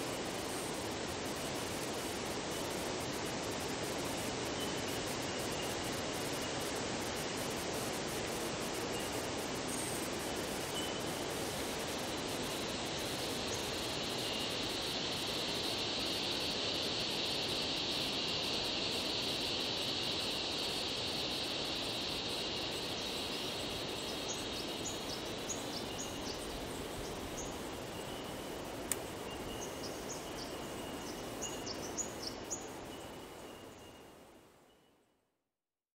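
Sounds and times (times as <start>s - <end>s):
even hiss: 0.0s - 35.1s
insect drone: 0.0s - 35.2s.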